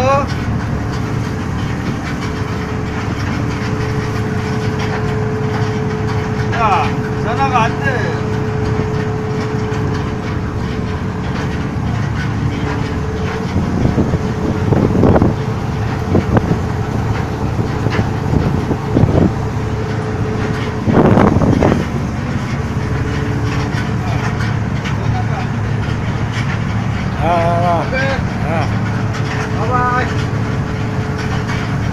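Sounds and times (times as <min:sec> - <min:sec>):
boat engine and rope hauler: 0:00.0 - 0:31.9.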